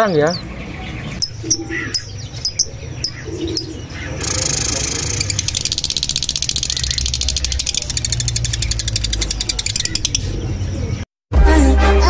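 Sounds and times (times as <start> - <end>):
bird high-pitched trill: 1.1 - 11.0.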